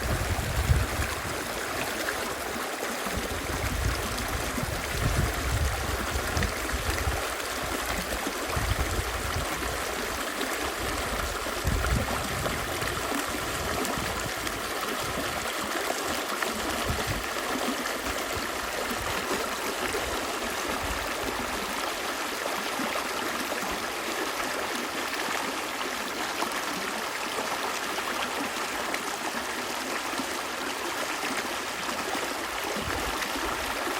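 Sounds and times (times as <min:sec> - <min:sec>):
stream water trickling: 0:00.0 - 0:33.9.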